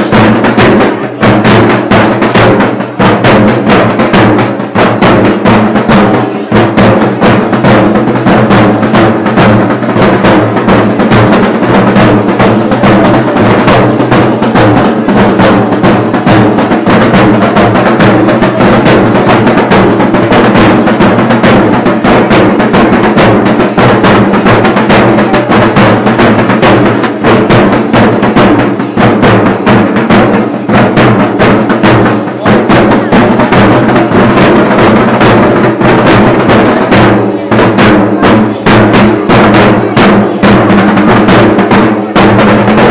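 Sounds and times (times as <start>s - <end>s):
drums beaten with sticks: 0.0s - 42.9s.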